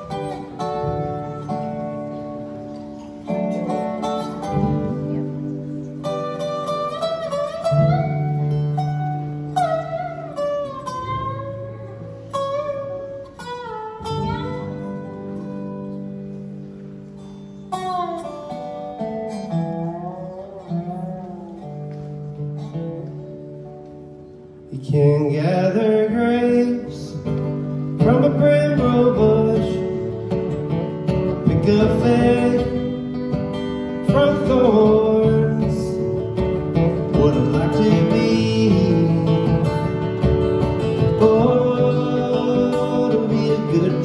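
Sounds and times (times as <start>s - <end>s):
bluegrass band playing: 0.0s - 44.0s
sliding dobro notes: 0.0s - 44.0s.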